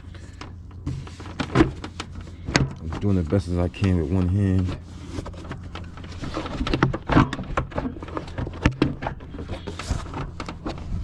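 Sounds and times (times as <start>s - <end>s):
plastic cover clicking and rattling: 0.0s - 11.0s.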